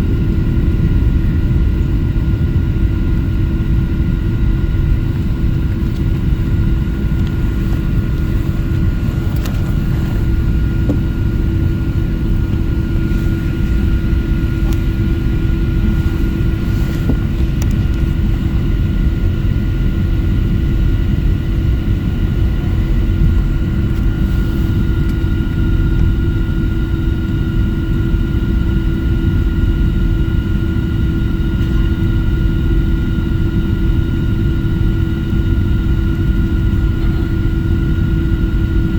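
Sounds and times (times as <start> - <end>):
airplane engine drone: 0.0 - 38.9
high engine whine: 0.0 - 38.9.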